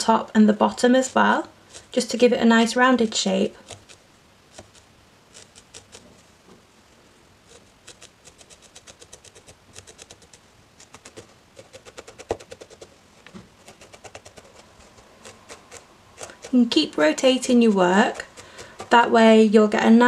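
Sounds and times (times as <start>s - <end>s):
felting needle pricking wool: 0.0s - 6.1s, 7.4s - 19.2s.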